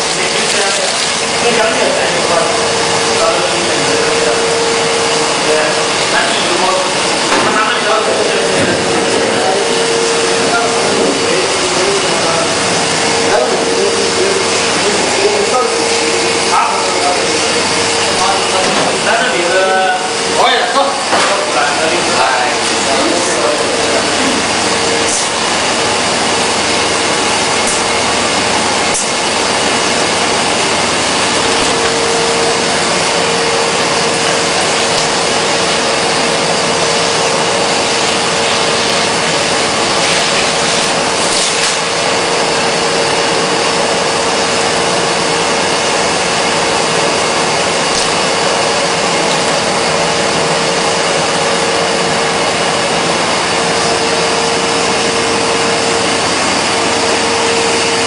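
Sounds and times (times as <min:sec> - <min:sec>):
machine whooshing and humming: 0:00.0 - 0:58.0.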